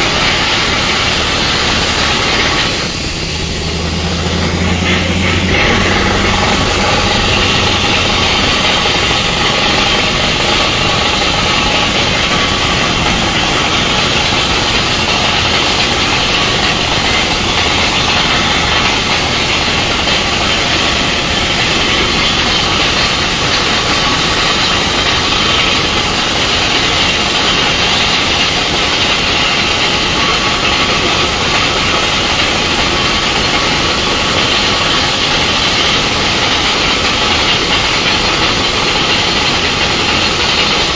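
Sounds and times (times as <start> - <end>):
drilling rig running with hiss: 0.0 - 40.9.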